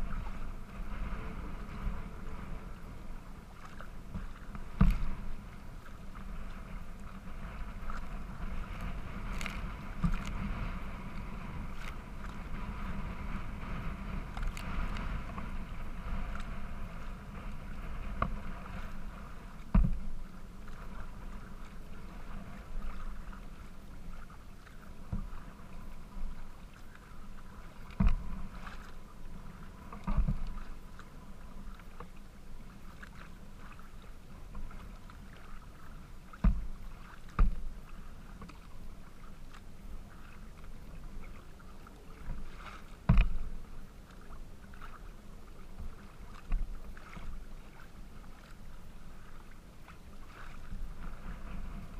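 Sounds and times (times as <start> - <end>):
water lapping against plastic hull: 0.0 - 51.9
waves thumping the bow: 0.0 - 51.9.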